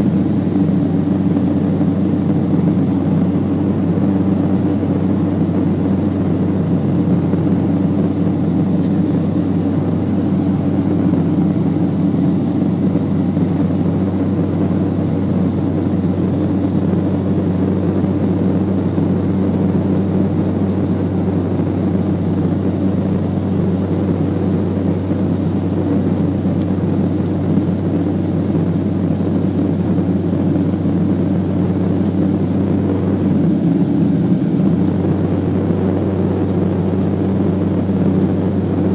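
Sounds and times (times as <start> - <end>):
turboprop engines droning: 0.0 - 38.9.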